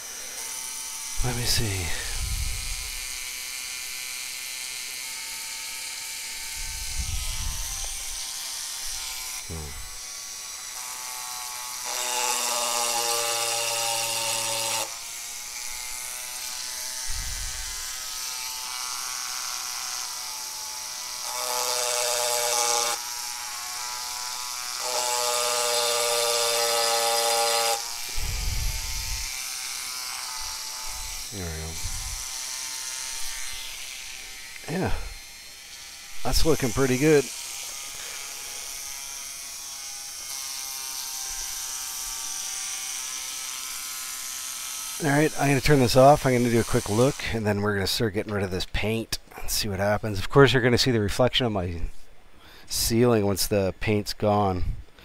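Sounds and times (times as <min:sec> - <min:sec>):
rotary engraving tool whining: 0:00.0 - 0:47.6.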